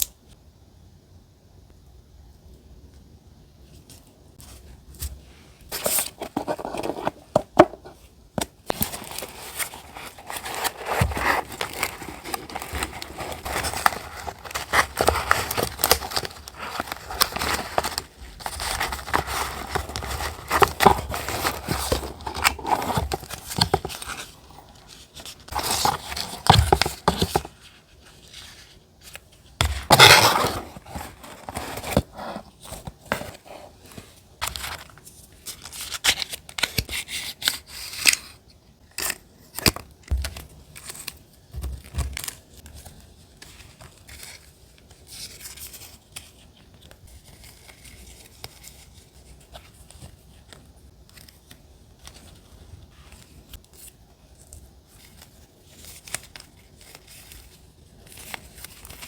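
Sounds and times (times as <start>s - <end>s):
paper rustling and crinkling: 3.8s - 59.0s.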